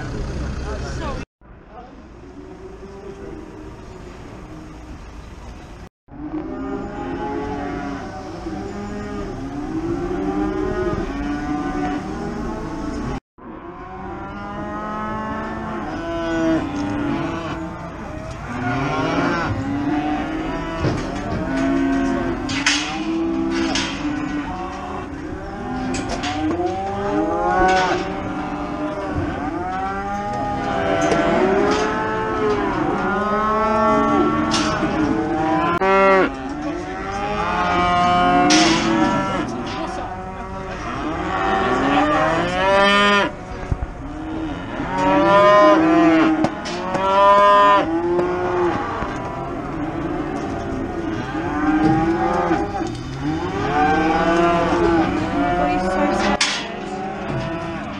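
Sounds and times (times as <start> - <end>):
cattle mooing: 6.2 - 57.9.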